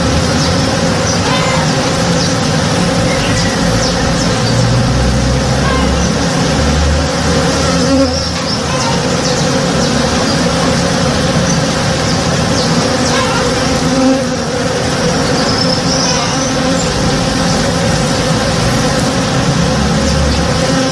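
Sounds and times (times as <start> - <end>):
honey bees buzzing: 0.0 - 20.9.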